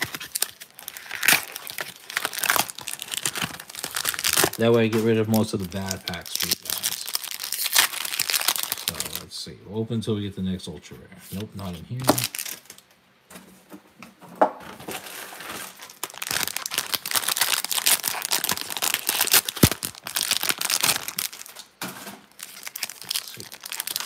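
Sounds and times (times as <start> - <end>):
plastic wrapper crinkling and tearing: 0.0 - 9.3, 11.4 - 12.9, 14.8 - 24.0.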